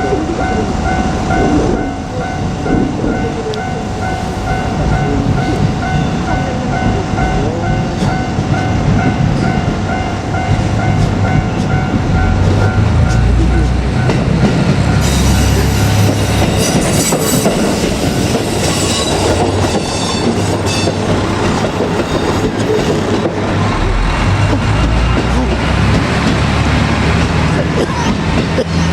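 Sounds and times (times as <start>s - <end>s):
level crossing warning bell: 0.0s - 23.2s
diesel railcar engine: 0.0s - 28.9s
wheels clacking over rail joints: 0.2s - 28.9s.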